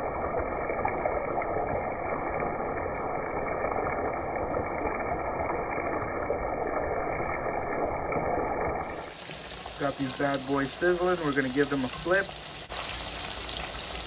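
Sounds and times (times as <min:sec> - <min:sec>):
oil sizzling and crackling: 0:00.0 - 0:14.0.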